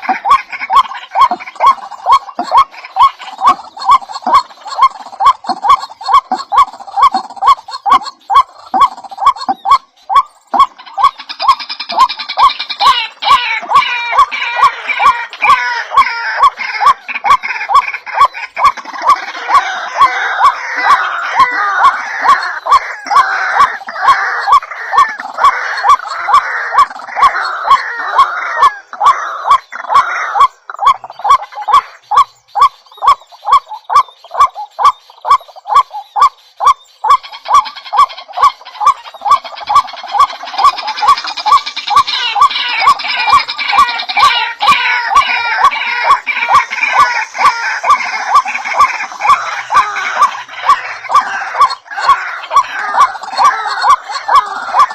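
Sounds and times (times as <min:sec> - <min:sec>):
birds calling and chattering: 0:00.0 - 0:54.9.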